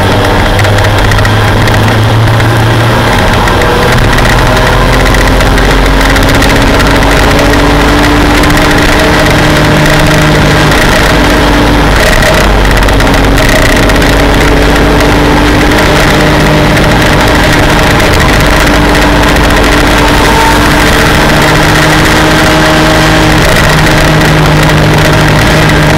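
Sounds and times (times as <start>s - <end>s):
race truck engine at speed: 0.0s - 25.9s.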